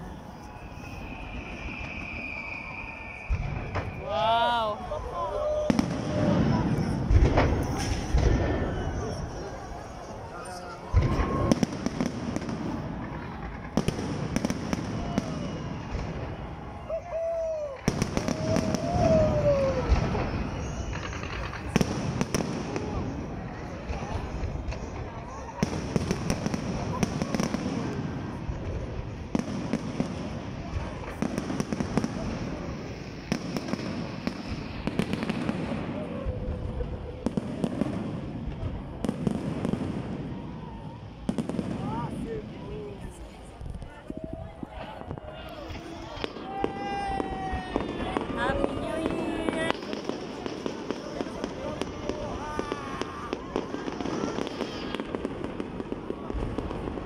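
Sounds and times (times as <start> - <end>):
firework bangs: 0.0 - 57.0.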